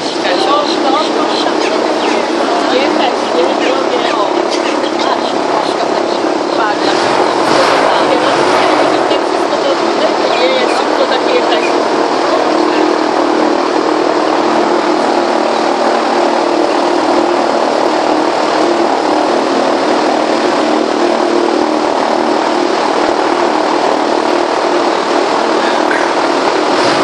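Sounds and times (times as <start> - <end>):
airboat engine and propeller drone: 0.0 - 27.0.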